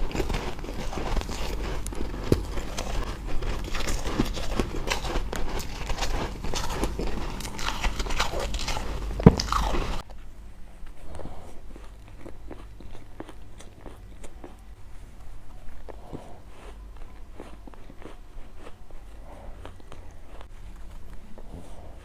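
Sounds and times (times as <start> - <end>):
ice being chewed: 0.0 - 10.1, 10.8 - 22.0.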